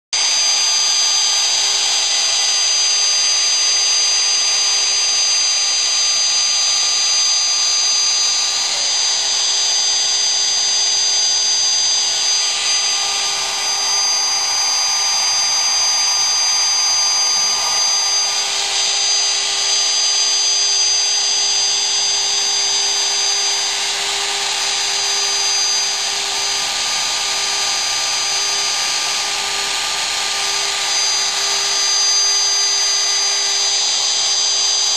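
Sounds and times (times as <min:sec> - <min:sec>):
router spindle whining: 0:00.2 - 0:34.9.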